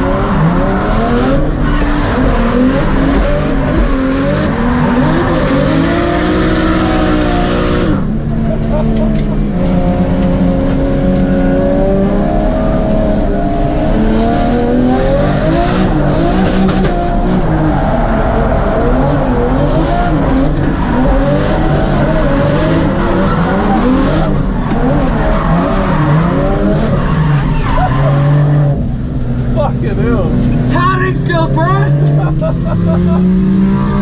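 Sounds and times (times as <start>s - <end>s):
car engine revving: 0.0s - 34.0s
tyres skidding: 0.0s - 34.0s.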